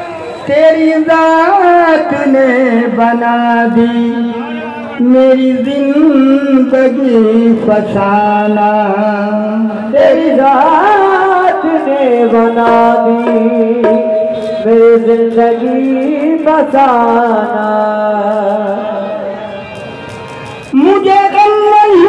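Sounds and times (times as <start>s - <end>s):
person singing devotional song: 0.0s - 19.4s, 20.7s - 22.0s.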